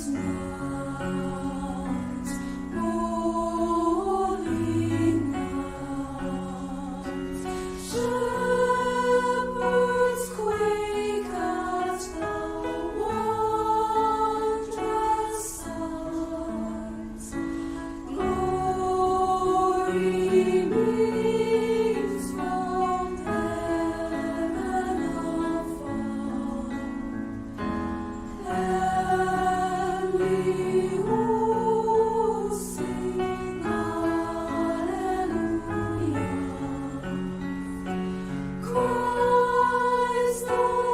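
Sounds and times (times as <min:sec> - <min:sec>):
choir singing in harmony: 0:00.0 - 0:40.9.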